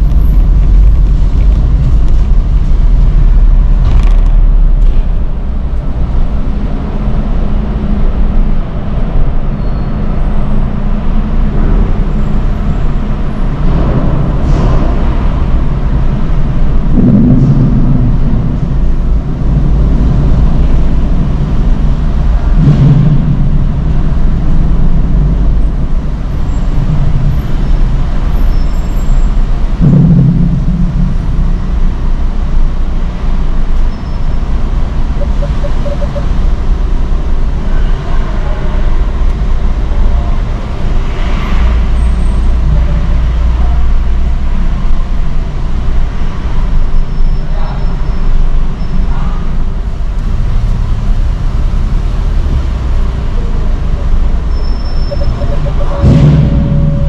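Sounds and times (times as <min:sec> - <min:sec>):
low rumble of engines: 0:00.0 - 0:57.0.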